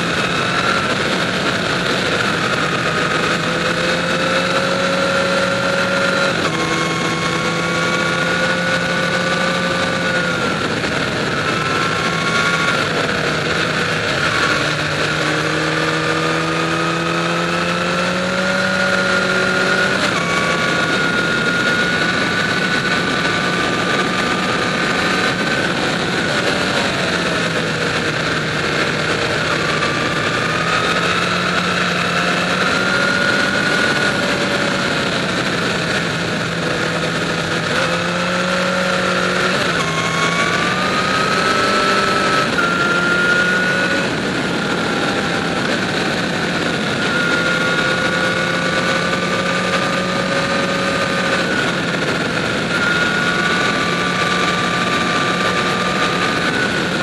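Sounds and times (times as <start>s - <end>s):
motorcycle engine accelerating: 0.0s - 57.0s
wind rushing: 0.0s - 57.0s.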